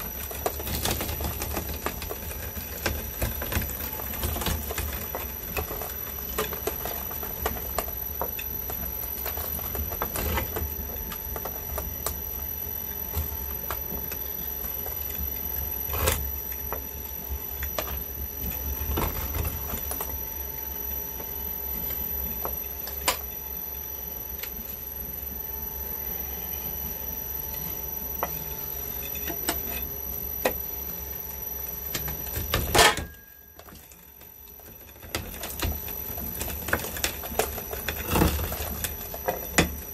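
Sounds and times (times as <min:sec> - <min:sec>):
shredder motor hum and rattling: 0:00.0 - 0:39.9.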